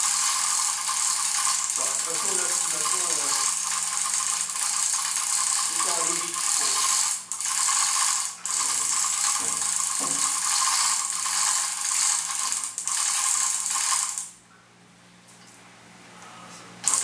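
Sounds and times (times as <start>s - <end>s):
hoist ratchet clicking rapidly: 0.0s - 14.3s.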